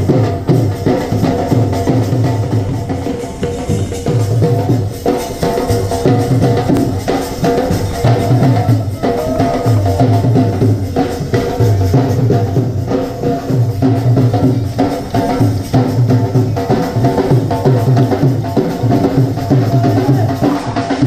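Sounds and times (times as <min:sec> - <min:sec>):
drums beating dance rhythm: 0:00.0 - 0:21.0
sustained melody: 0:01.5 - 0:19.6.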